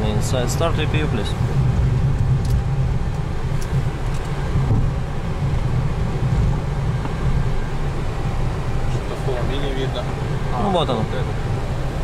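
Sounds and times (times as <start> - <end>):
aircraft engines idling rumble: 0.0 - 12.0.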